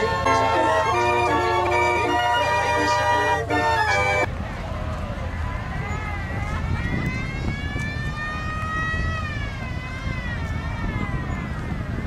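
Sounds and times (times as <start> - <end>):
siren wailing: 0.0 - 4.3, 5.8 - 12.0.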